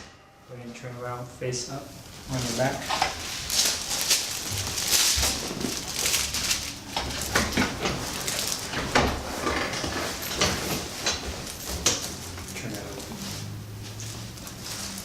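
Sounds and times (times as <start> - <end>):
rustling and shuffling: 1.8 - 15.0.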